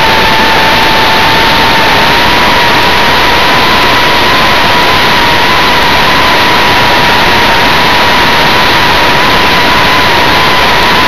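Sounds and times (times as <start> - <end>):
electric motor whine: 0.0 - 11.0
wind rush: 0.0 - 11.0.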